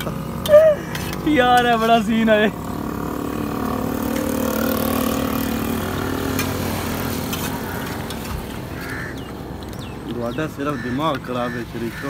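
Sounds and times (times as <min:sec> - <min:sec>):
small motorcycle engine running: 0:00.0 - 0:10.0.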